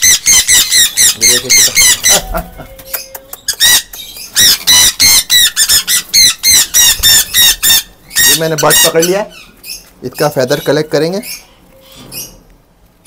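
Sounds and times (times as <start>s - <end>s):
parrots screeching: 0.0s - 12.5s.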